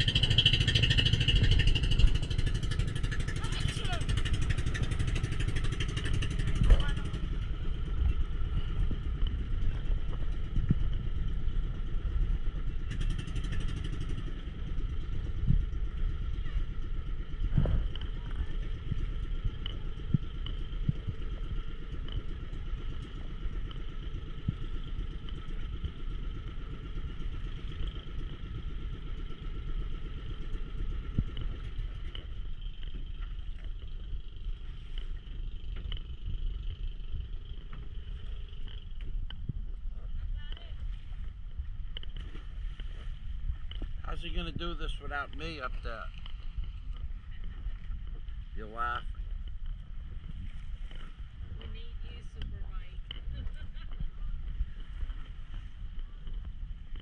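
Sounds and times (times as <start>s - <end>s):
small boat engine running: 0.0s - 57.0s.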